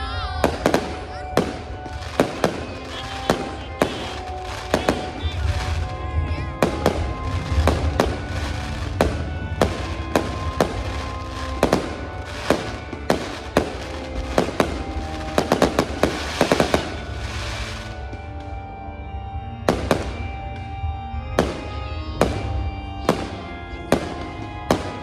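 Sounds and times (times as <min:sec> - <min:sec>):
music: 0:00.0 - 0:25.0
fireworks bursting with sharp bangs: 0:00.3 - 0:18.7, 0:19.6 - 0:25.0.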